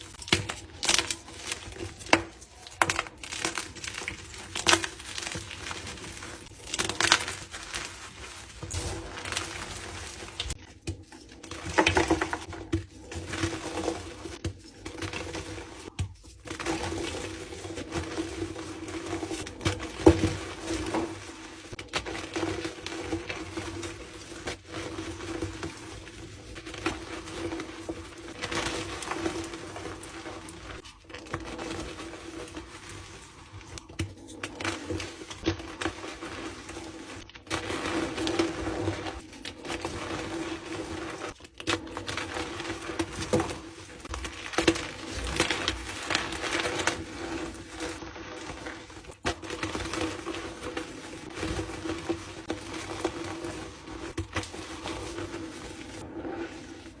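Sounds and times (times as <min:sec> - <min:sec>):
chalk being crushed by hand: 0:00.0 - 0:56.9.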